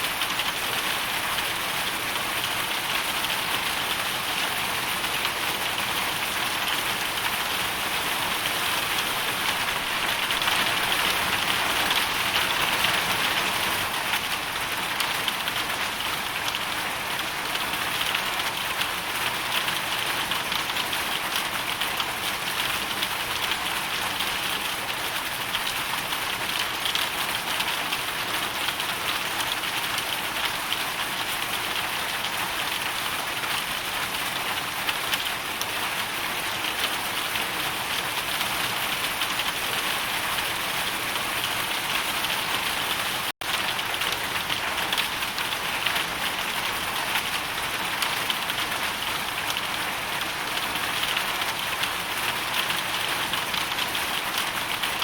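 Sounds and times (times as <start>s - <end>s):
hail and rain falling: 0.0s - 55.0s.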